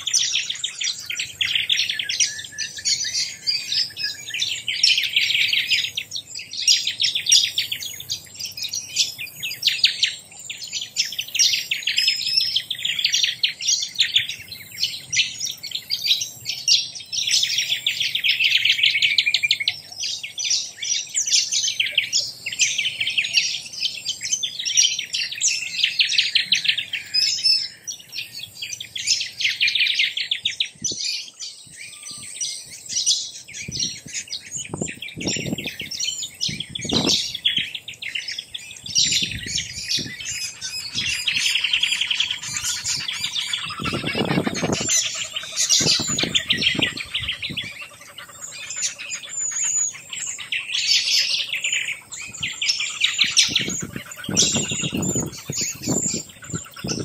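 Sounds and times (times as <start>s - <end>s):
many birds chirping: 0.0s - 57.0s.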